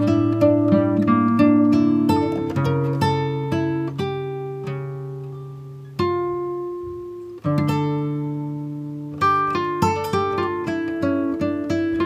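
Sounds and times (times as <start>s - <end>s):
guitar plucking and strumming: 0.0s - 12.0s.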